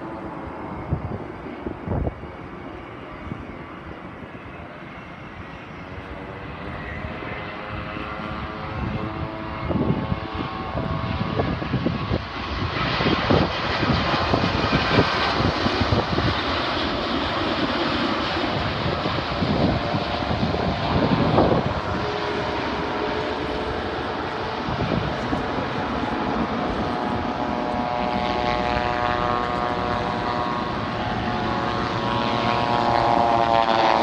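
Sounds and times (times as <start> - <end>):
jet engine whine: 0.0 - 34.0
rushing aircraft engine: 0.0 - 34.0.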